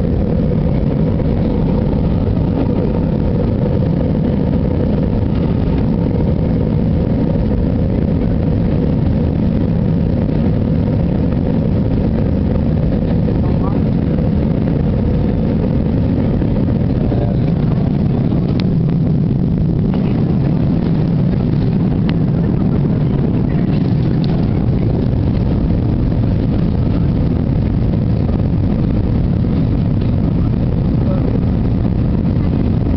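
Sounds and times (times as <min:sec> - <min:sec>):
jet engine roar in cabin: 0:00.0 - 0:32.9.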